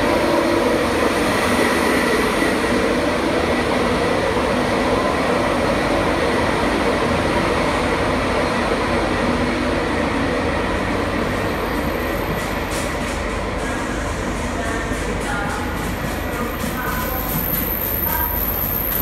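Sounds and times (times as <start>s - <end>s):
electric locomotive pulling train: 0.0s - 19.0s.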